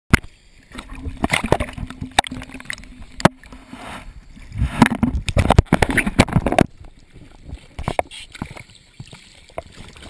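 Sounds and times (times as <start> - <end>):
water sloshing and splashing: 0.1 - 10.0.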